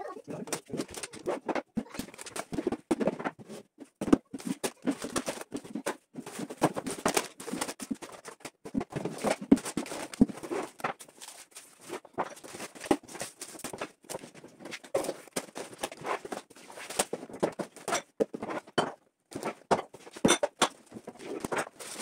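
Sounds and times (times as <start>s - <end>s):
plastic packaging rustling: 0.4s - 18.6s, 19.3s - 22.0s.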